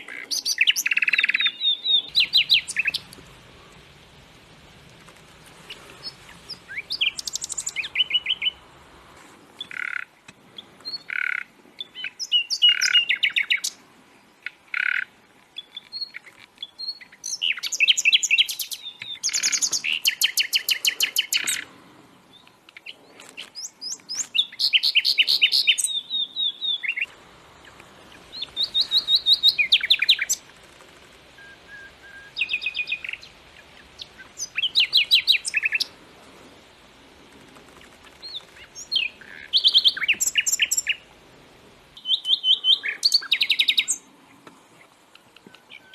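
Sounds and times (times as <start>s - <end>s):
songbirds singing trilled phrases: 0.0s - 3.2s, 5.7s - 8.7s, 9.6s - 13.8s, 14.4s - 21.7s, 22.3s - 36.0s, 37.7s - 41.1s, 42.0s - 44.0s.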